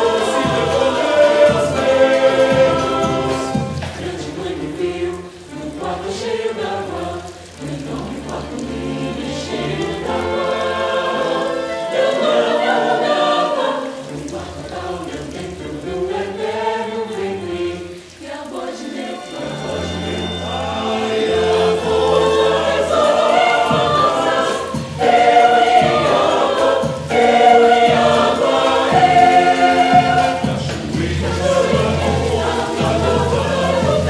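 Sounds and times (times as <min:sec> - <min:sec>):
mixed choir singing: 0:00.0 - 0:34.0
orchestral accompaniment: 0:00.0 - 0:34.0.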